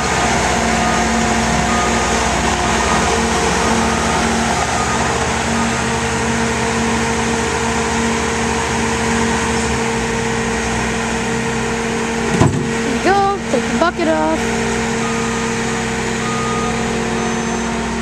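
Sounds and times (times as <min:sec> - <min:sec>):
track loader diesel engine running: 0:00.0 - 0:18.0.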